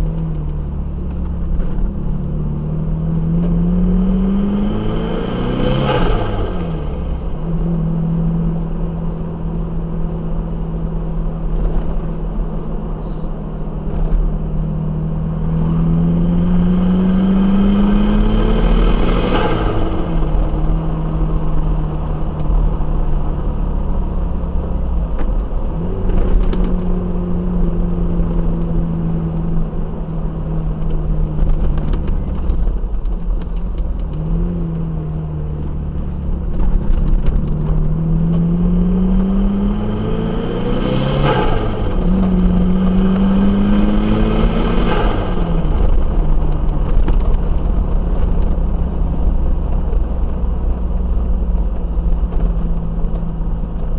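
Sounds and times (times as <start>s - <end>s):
truck engine revving under load: 0.0s - 53.9s.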